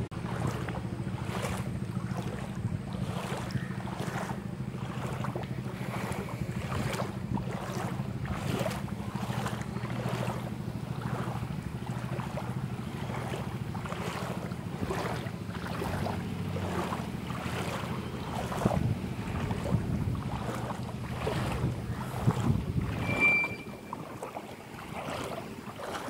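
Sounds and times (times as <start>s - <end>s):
floodwater rushing: 0.0s - 26.0s
wind buffeting microphone: 0.0s - 26.0s.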